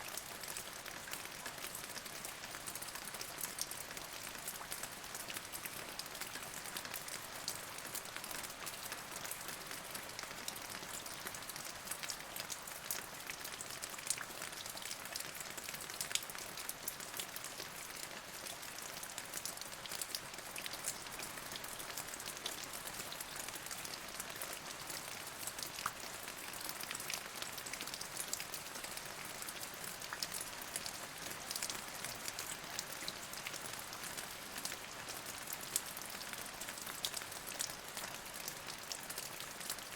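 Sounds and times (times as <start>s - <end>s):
raindrops ticking on a surface: 0.0s - 39.9s.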